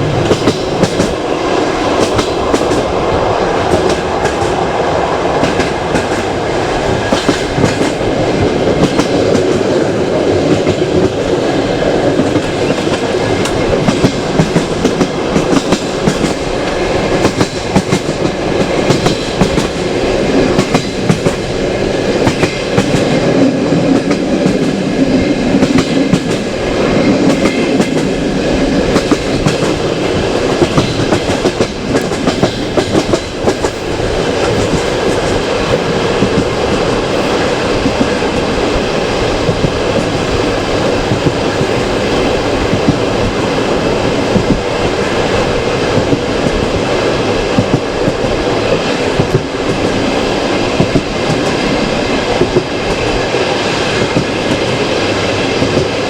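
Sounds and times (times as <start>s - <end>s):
train carriage rumbling: 0.0s - 56.0s.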